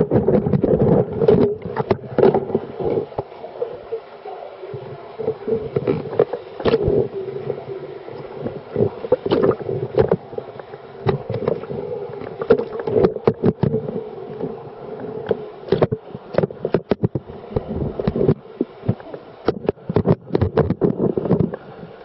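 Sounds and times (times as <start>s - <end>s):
running water: 0.0s - 22.0s.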